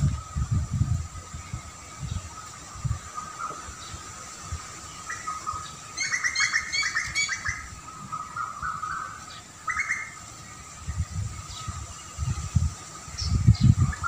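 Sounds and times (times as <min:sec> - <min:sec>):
wild birds chirping: 0:00.0 - 0:14.0.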